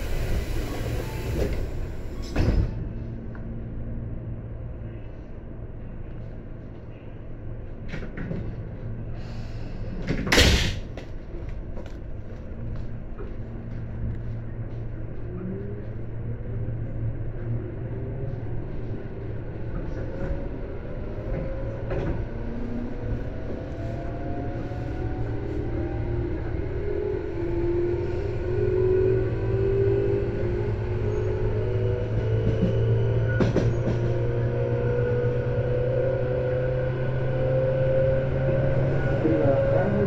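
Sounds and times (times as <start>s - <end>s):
electric train humming: 0.0s - 5.1s, 11.8s - 40.0s.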